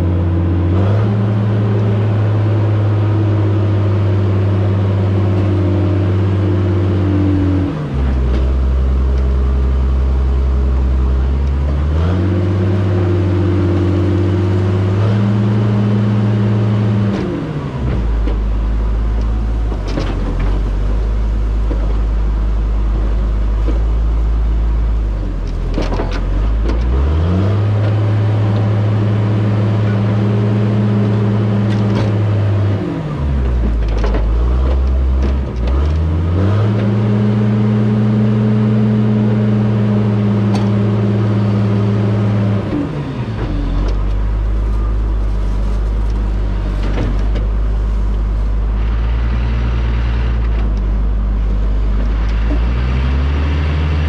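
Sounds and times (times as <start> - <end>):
diesel engine revving and idling: 0.0 - 54.0.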